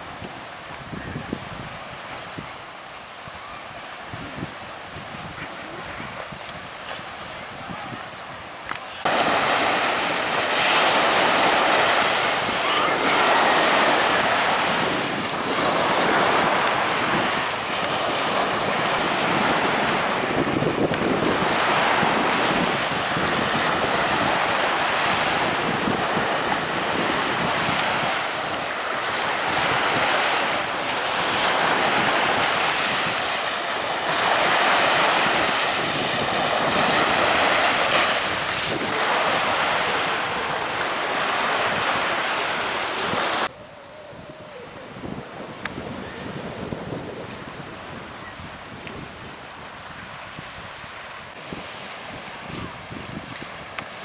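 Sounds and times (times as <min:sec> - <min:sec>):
rushing water and surf: 0:00.0 - 0:54.0
wind buffeting microphone: 0:00.0 - 0:54.0.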